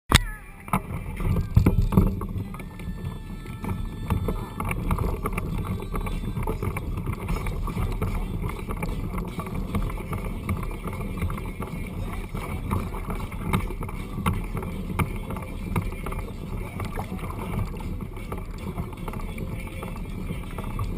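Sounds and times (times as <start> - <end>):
knocks and clicks: 0.1 - 20.9.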